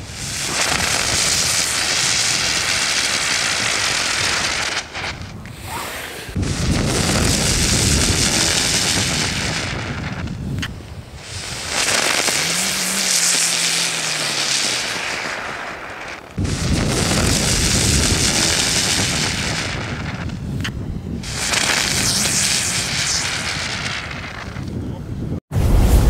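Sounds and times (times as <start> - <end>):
spinner fireworks hissing: 0.0 - 25.3.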